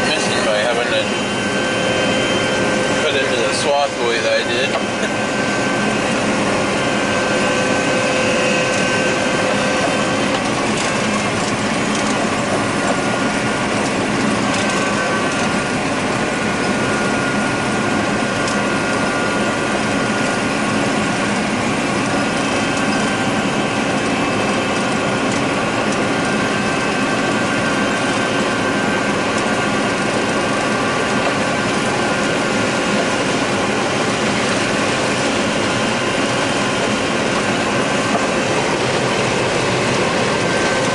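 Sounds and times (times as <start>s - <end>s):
combine harvester machinery din: 0.0s - 40.9s.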